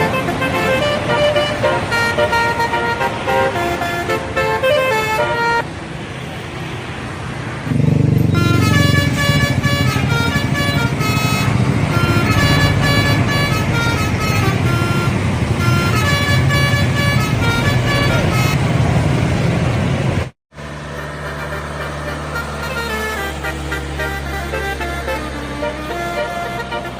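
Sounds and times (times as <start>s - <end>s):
air horns playing a tune: 0.0s - 5.6s, 8.2s - 18.7s, 20.8s - 26.9s
loud low engine rumble: 0.0s - 26.9s.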